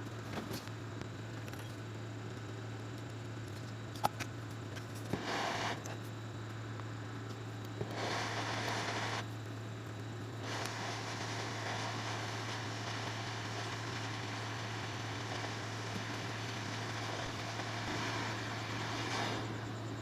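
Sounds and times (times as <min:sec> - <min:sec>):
steady low hum: 0:00.0 - 0:20.0
hot-air station hissing: 0:03.9 - 0:20.0.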